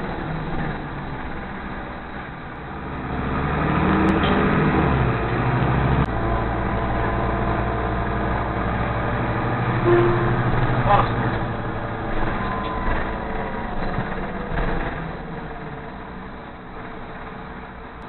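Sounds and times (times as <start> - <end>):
bus diesel engine: 0.0 - 18.0.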